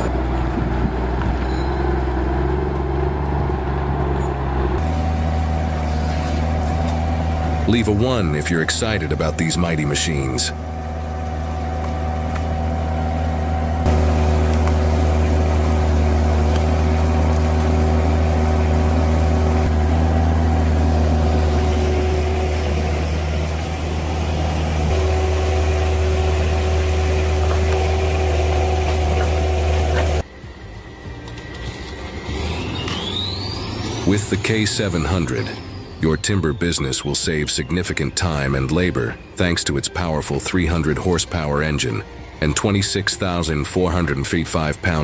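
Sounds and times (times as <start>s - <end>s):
heavy machinery engine running: 0.0s - 45.0s.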